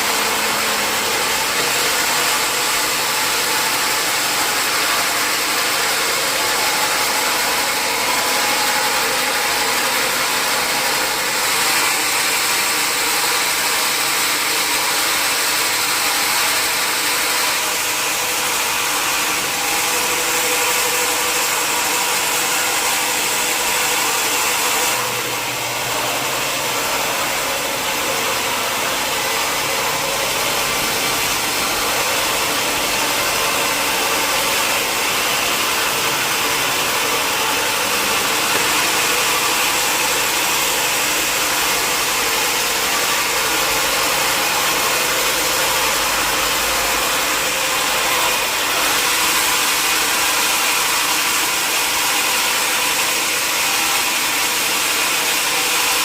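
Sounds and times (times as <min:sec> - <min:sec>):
sawmill saw and motor humming: 0:00.0 - 0:56.0.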